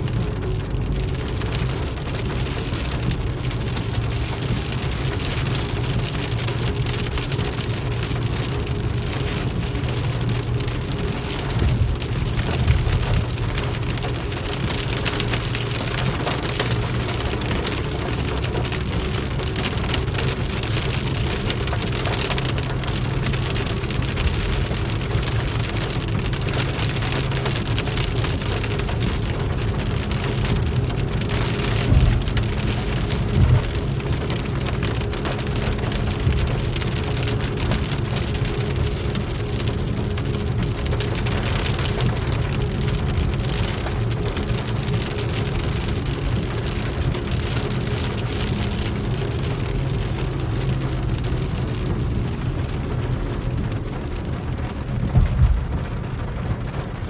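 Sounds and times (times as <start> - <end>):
engine and road rumble: 0.0 - 57.0
rain on car roof: 0.0 - 57.0.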